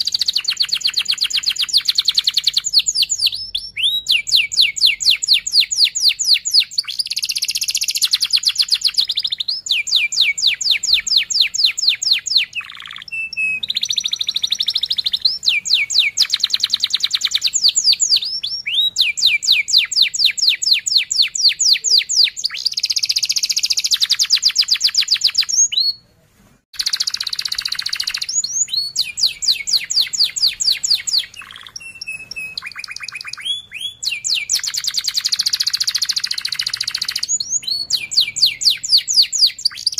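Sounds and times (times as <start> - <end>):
canary singing rolling trills: 0.0 - 26.0, 26.8 - 39.9.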